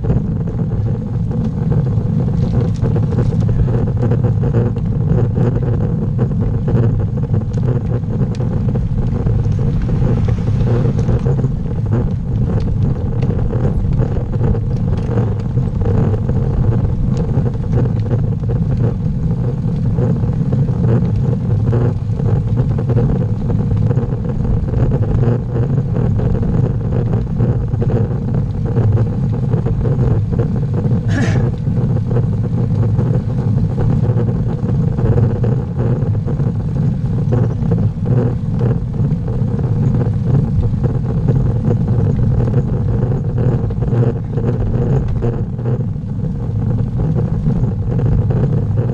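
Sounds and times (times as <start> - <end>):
bike tyres rolling on asphalt: 0.0 - 48.9
wind rumble on microphone: 0.0 - 48.9.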